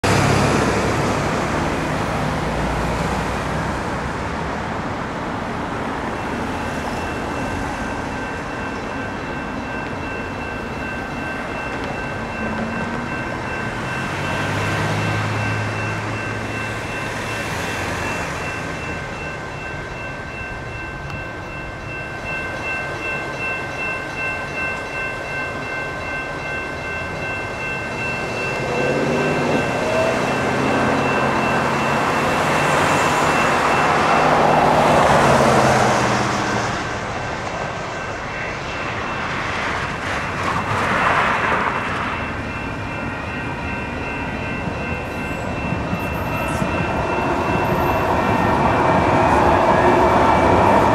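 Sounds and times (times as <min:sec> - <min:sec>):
passing road traffic: 0:00.0 - 0:50.9
electronic crossing bells ringing: 0:05.9 - 0:37.0, 0:37.6 - 0:50.9.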